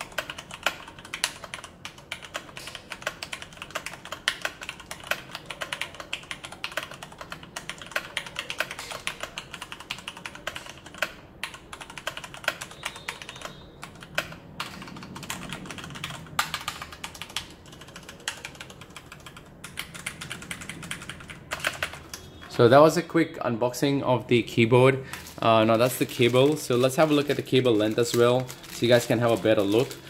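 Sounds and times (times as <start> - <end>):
mechanical keyboard typing: 0.0 - 22.2, 25.1 - 30.0.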